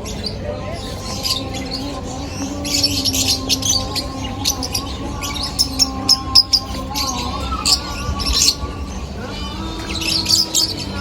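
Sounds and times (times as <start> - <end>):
caged birds chirping and squawking: 0.0 - 11.0
steady low hum: 0.0 - 11.0.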